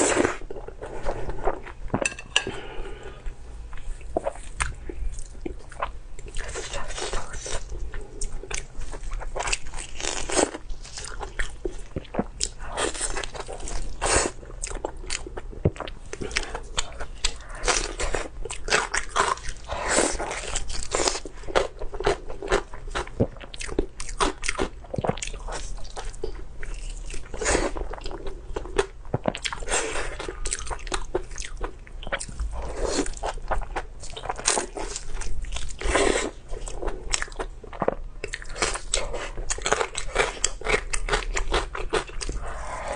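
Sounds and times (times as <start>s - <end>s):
chewing and biting food: 4.2s - 42.9s.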